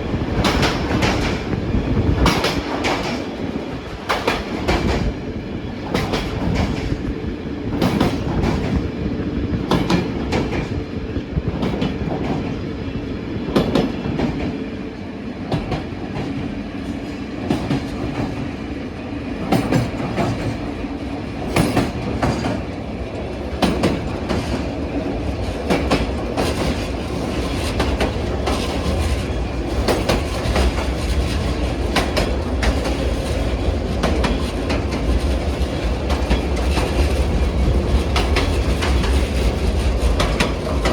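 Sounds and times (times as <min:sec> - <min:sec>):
train running rumble: 0:00.0 - 0:40.9
train wheels clacking over rail joints: 0:00.1 - 0:09.0, 0:09.6 - 0:12.7, 0:13.5 - 0:14.6, 0:15.4 - 0:40.9.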